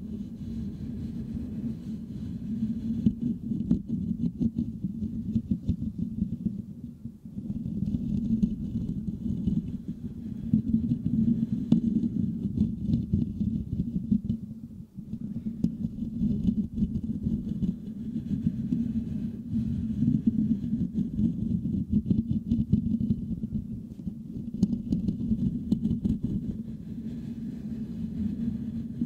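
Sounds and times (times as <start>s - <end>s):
fingers scratching microphone grille: 0.6s - 6.6s, 7.4s - 14.4s, 15.1s - 27.4s.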